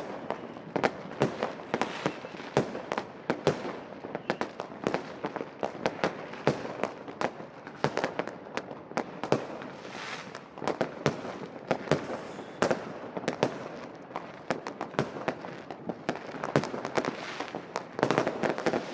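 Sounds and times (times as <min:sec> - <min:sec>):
fireworks bangs and pops: 0:00.0 - 0:18.9
fireworks crackling: 0:00.0 - 0:18.9.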